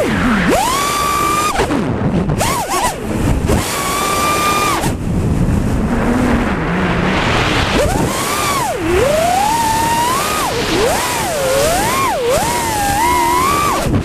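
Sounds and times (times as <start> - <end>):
quadcopter motors whining: 0.0 - 14.0
air rushing over microphone: 2.0 - 14.0.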